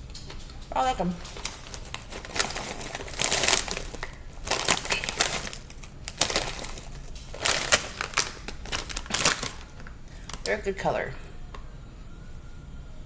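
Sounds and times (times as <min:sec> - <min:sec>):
chips crunching when chewed: 0:00.1 - 0:10.6.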